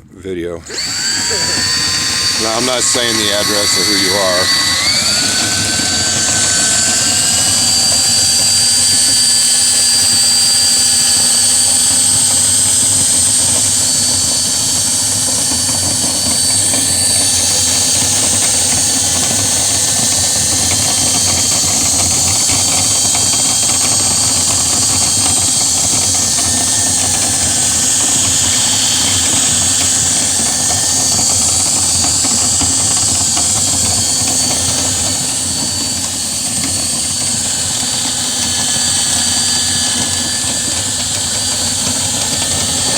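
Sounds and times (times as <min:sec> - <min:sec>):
electric motor whining: 0:00.6 - 0:42.9.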